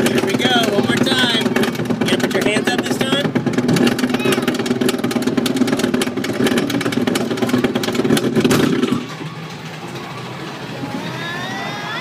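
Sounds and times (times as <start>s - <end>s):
roller coaster rumbling and clattering: 0.0s - 12.0s.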